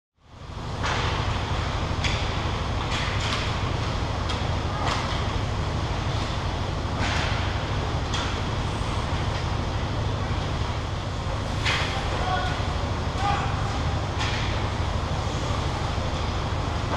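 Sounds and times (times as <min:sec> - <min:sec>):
ice rink ambience rumble: 0:00.2 - 0:16.9.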